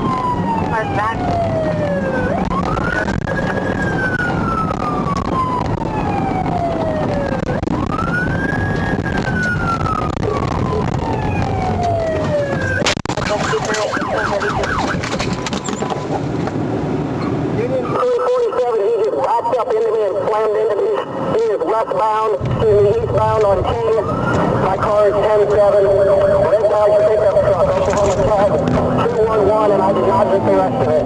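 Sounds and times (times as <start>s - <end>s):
police siren wailing and yelping: 0.0s - 16.4s, 17.1s - 31.0s
car engine and road noise: 0.0s - 31.0s.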